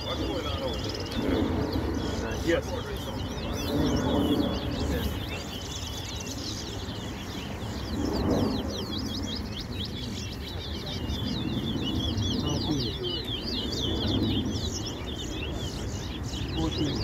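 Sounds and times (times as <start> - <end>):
finch singing rapid chirps: 0.0 - 17.0.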